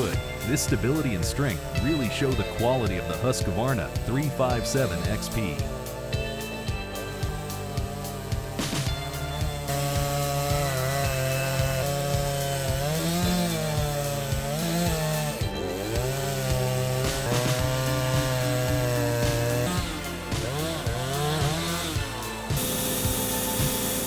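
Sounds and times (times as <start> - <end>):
background music: 0.0 - 24.0
chainsaw cutting a log: 0.0 - 24.0.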